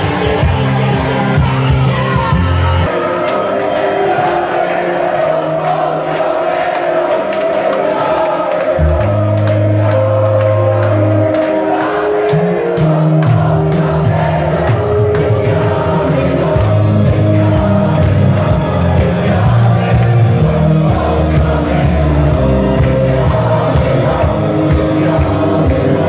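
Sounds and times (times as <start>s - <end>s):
crowd singing and cheering: 0.0s - 26.0s
loud dance music: 0.0s - 26.0s.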